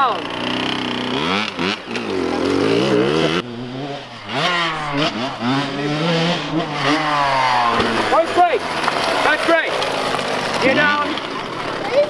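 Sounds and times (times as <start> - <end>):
small dirt bike engine revving: 0.0 - 12.0.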